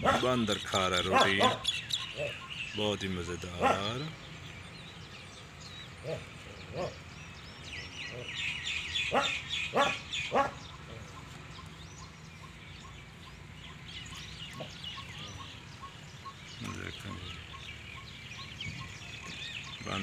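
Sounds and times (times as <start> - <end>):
low animal call: 0.0 - 4.3, 5.9 - 20.0
small birds chirping: 0.0 - 20.0.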